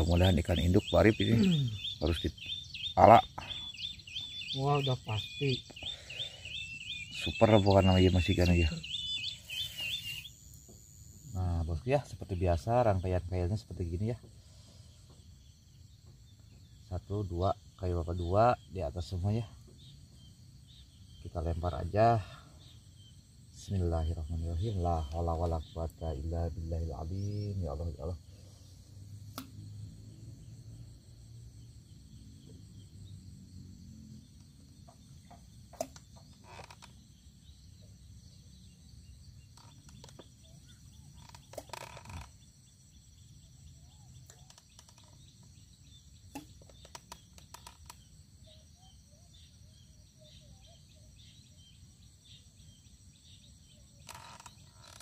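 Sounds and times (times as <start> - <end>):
faint chirps: 0.0 - 55.0
high insect buzz: 0.0 - 55.0.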